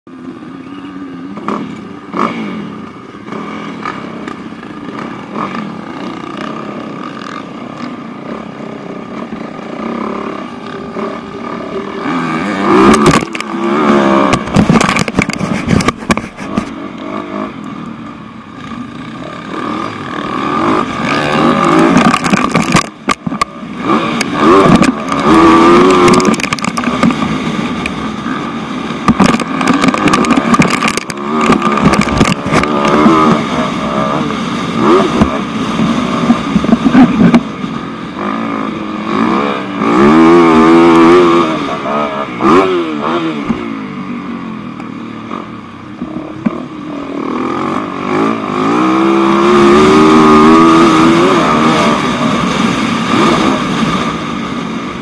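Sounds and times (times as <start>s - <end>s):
motocross bike engine revving: 0.2s - 55.0s.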